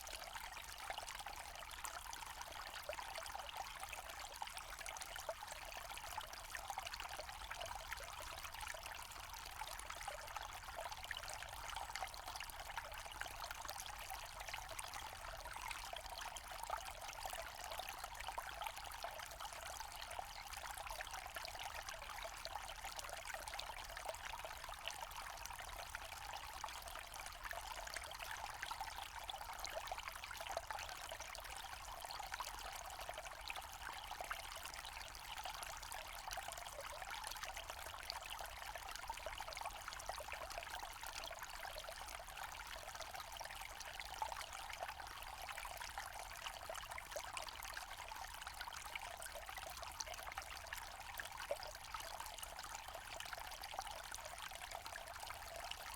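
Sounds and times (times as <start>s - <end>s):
stream trickling over stones: 0.0s - 55.9s.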